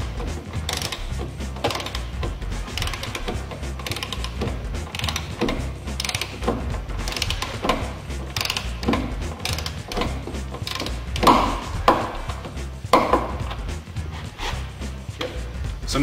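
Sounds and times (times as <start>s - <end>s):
ratchet wrench clicking: 0.0s - 13.7s.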